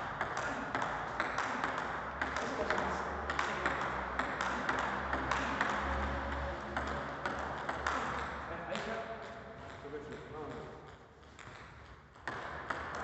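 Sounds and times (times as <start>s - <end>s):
ball bouncing on table: 0.0s - 13.0s
ping pong ball clicking off paddles: 0.0s - 13.0s.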